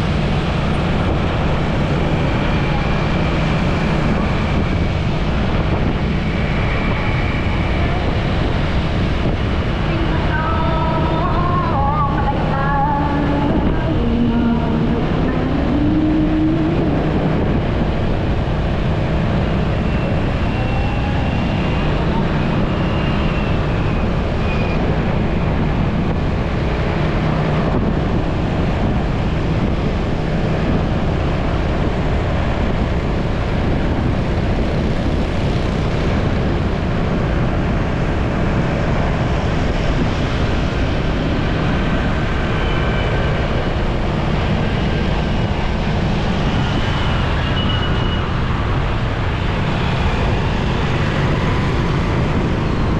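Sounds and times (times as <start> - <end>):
surrounding traffic: 0.0 - 52.9
wind rushing over microphone: 0.0 - 52.9.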